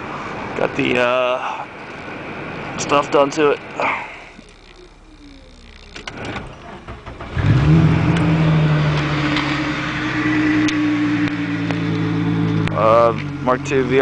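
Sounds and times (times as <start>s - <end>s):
car engine starting and running: 0.0s - 14.0s.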